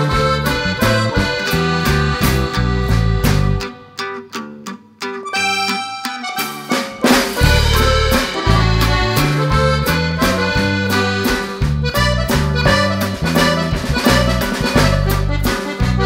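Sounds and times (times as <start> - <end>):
accordion music with beat: 0.0 - 4.4, 5.1 - 16.0.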